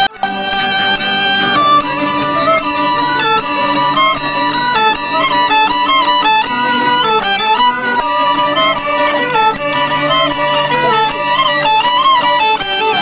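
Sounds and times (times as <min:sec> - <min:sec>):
bowed fiddle melody: 0:00.0 - 0:13.0
other instruments: 0:00.0 - 0:13.0.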